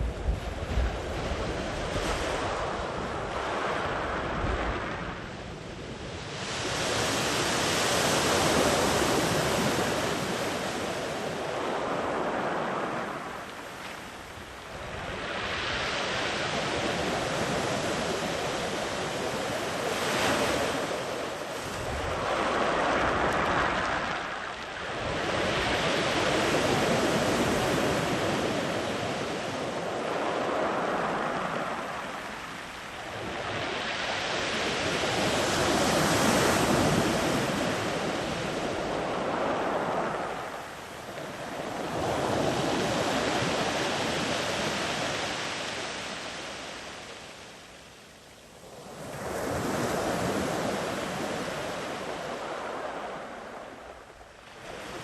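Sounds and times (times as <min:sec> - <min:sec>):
sea waves breaking on beach: 0:06.2 - 0:47.8, 0:48.6 - 0:55.0.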